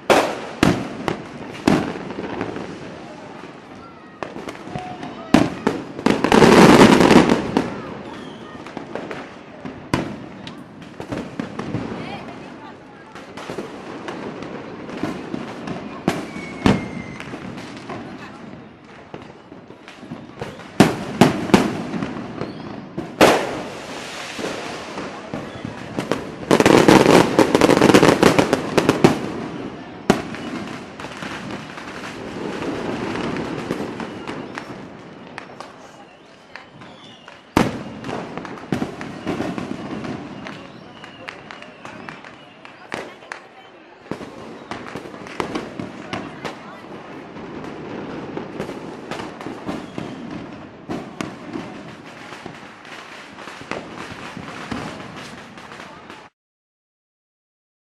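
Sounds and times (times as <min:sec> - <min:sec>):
fireworks bangs: 0:00.0 - 0:56.3
fireworks crackling and popping: 0:00.0 - 0:56.3.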